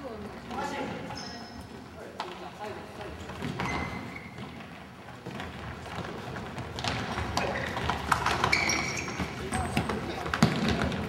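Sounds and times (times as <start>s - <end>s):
sneaker squeaks: 0.6s - 1.8s, 3.1s - 11.0s.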